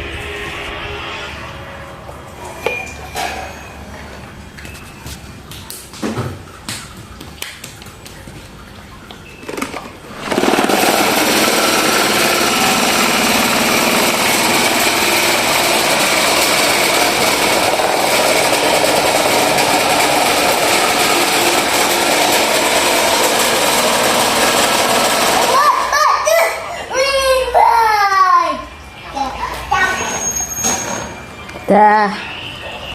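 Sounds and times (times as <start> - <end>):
electric fan running: 0.0 - 27.1.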